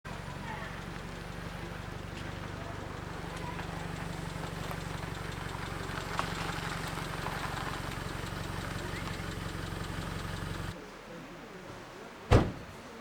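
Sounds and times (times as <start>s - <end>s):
car engine idling: 0.1s - 10.8s.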